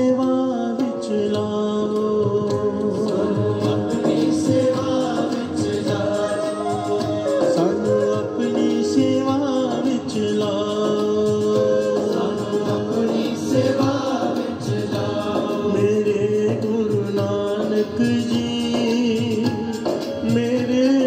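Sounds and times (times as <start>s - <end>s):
man leading sung line: 0.0s - 21.0s
musical accompaniment: 0.0s - 21.0s
gathering singing along: 1.3s - 19.4s.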